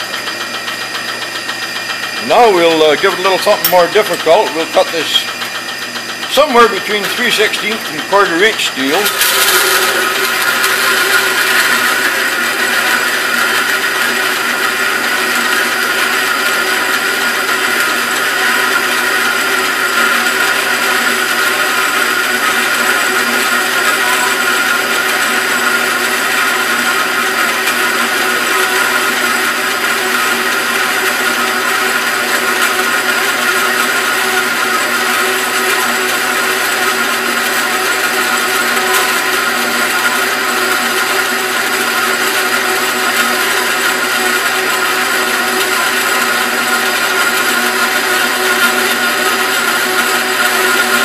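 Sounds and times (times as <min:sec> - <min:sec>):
bandsaw cutting steel bar: 0:00.0 - 0:51.0.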